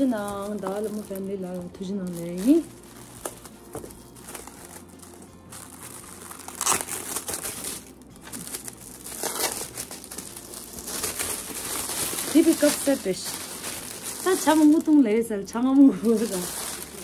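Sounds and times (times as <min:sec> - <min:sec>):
gift packaging crinkling: 0:00.0 - 0:17.0.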